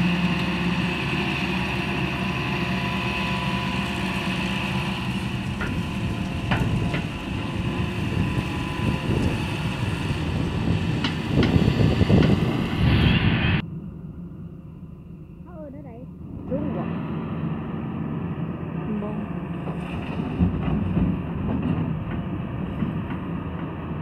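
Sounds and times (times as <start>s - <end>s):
excavator diesel engine whining: 0.0s - 24.0s.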